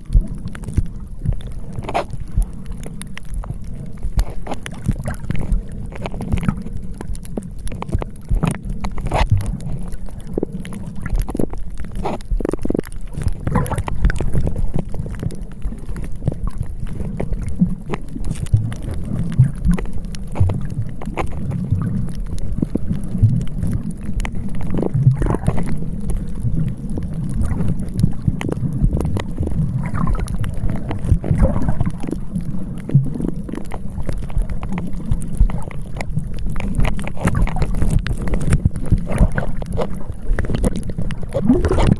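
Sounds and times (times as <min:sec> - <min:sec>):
crackles: 0:00.0 - 0:41.9.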